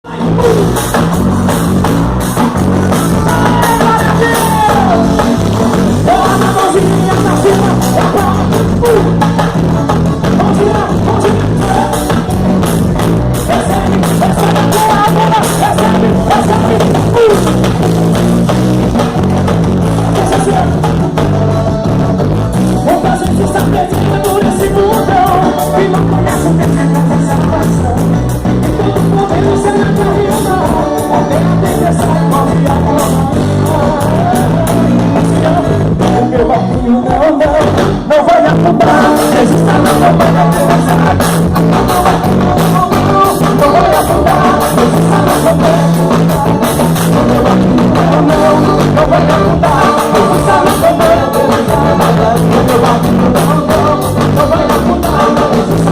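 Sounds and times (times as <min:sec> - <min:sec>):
band music with steady beat: 0:00.0 - 0:55.9
bass line: 0:00.0 - 0:55.9.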